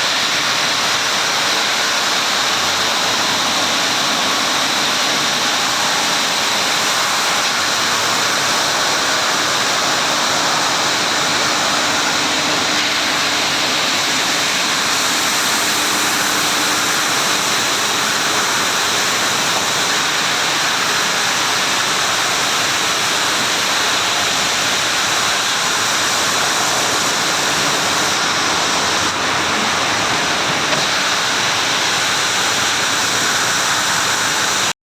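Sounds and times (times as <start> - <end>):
sanding machine rushing: 0.0 - 34.7.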